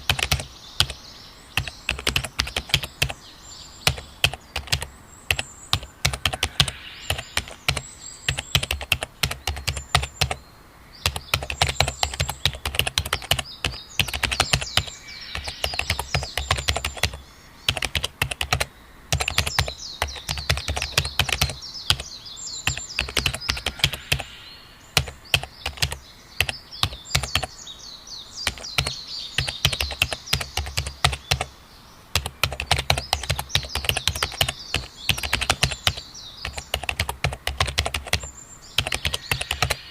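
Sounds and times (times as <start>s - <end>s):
typing on computer keyboard: 0.0s - 1.0s, 1.6s - 3.2s, 3.9s - 10.4s, 11.0s - 22.1s, 22.7s - 24.3s, 25.0s - 27.5s, 28.4s - 31.5s, 32.2s - 39.8s
birds chirping and twittering: 0.0s - 39.9s.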